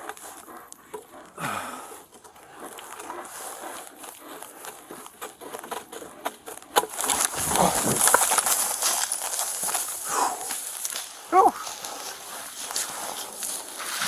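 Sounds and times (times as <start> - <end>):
rustling and crackling brush: 0.0 - 14.0
twigs snapping: 0.1 - 13.8.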